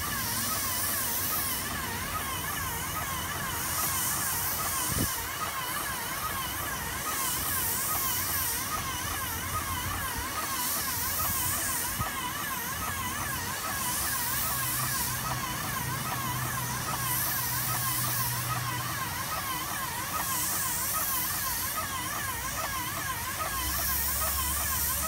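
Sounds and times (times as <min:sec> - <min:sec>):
paint spray gun hissing: 0:00.0 - 0:25.0.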